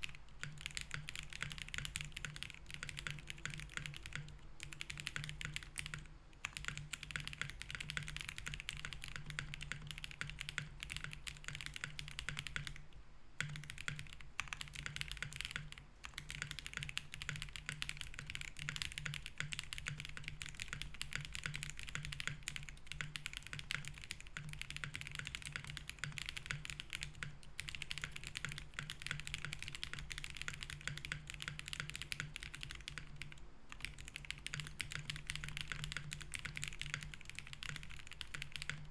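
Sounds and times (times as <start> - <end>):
faint low hum: 0.0 - 38.9
fast typing on mechanical keyboard: 0.0 - 38.9.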